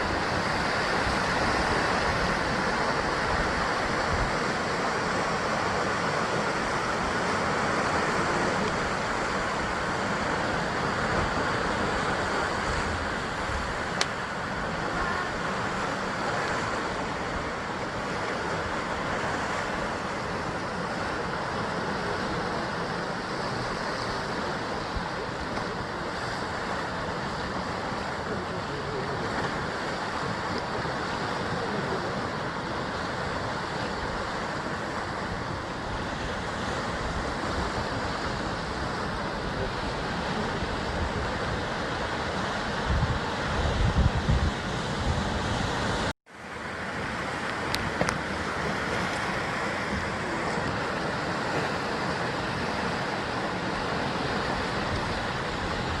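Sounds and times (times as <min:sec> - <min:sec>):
sea surf on rocky shore: 0:00.0 - 0:56.0.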